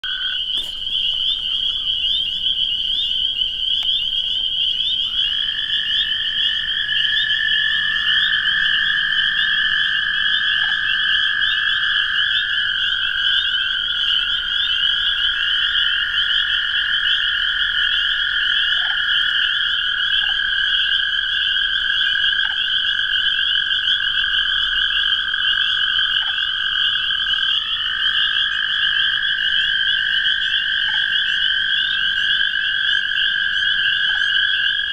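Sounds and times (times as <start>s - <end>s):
spring peepers chorus: 0.0s - 34.9s
toads trilling: 0.0s - 34.9s.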